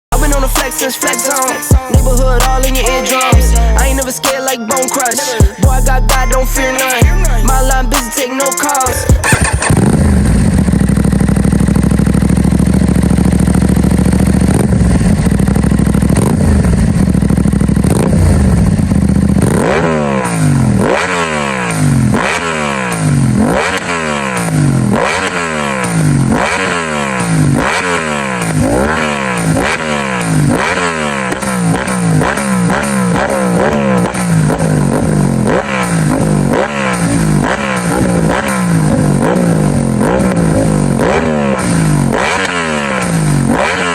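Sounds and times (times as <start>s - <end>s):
motorcycle engine idling: 0.0s - 43.9s
motorcycle engine revving: 0.0s - 43.9s.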